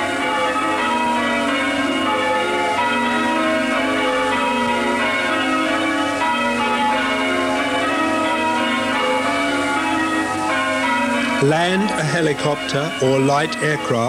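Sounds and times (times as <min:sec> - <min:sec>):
bells ringing: 0:00.0 - 0:14.0.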